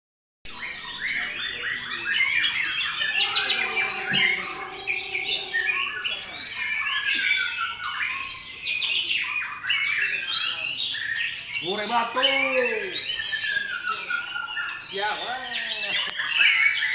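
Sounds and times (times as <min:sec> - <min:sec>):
songbirds singing whistled phrases: 0:00.5 - 0:16.9.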